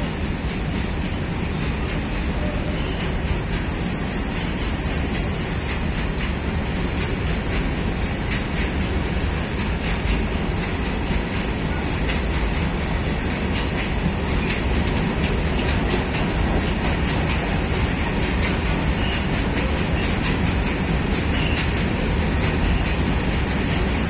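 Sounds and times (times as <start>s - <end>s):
rumble of wheels on rail: 0.0s - 24.0s
wheels clicking over rail joints: 0.1s - 24.0s.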